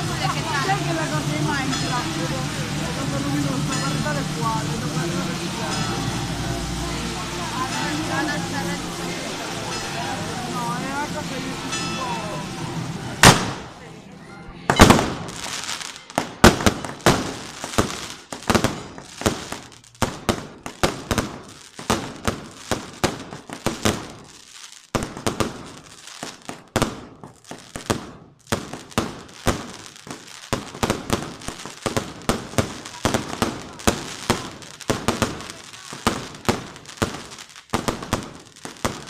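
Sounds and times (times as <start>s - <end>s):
fireworks bangs and crackles: 0.0s - 14.0s, 14.6s - 39.0s.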